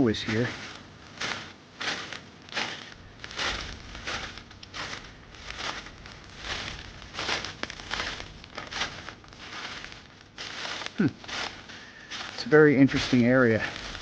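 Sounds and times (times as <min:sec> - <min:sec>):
footsteps crunching through leaves: 0:00.0 - 0:14.0.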